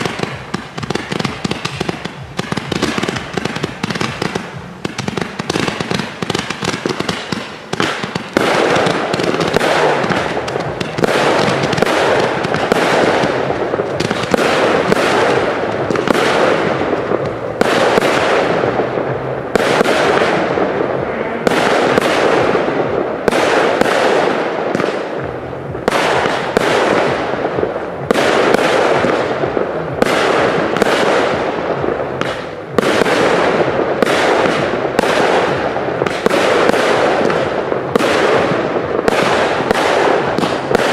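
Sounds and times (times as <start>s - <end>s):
fireworks launching and bursting: 0.0s - 40.9s
rapid crackle of firework shots: 0.0s - 40.9s.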